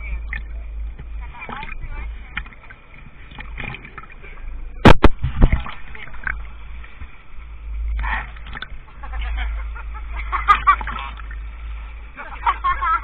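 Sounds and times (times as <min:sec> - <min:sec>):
sea water splashing: 0:00.0 - 0:13.0.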